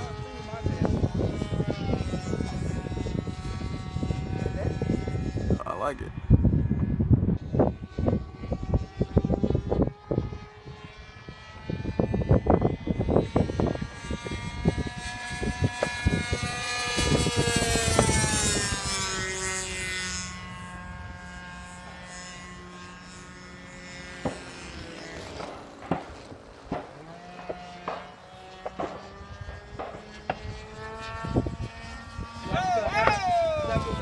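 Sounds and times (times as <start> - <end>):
model airplane engines droning: 0.0 - 34.0.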